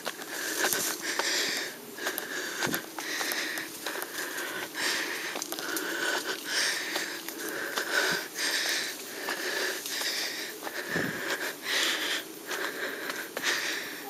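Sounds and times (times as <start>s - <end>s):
faint footsteps on dirt: 0.0s - 14.0s
heavy rhythmic breathing: 0.0s - 14.0s.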